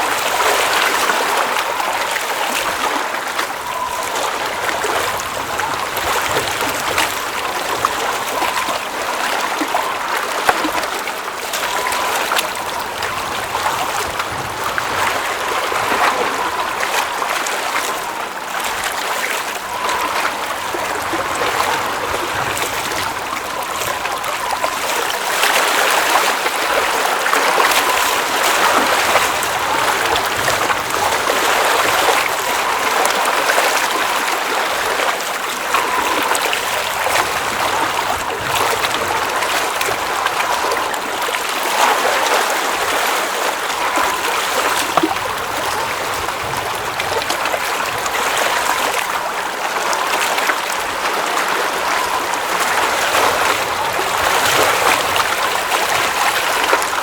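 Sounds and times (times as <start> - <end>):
small water splashes: 0.0 - 57.0
water flowing and trickling: 0.0 - 57.0.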